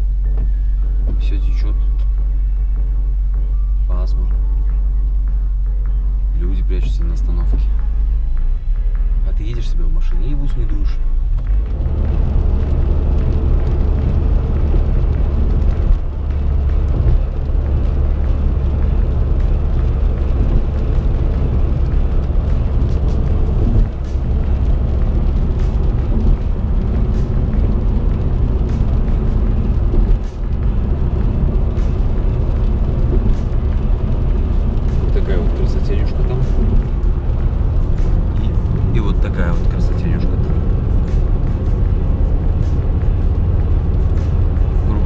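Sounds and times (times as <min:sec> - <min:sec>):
car cabin road and engine rumble: 0:00.0 - 0:45.0.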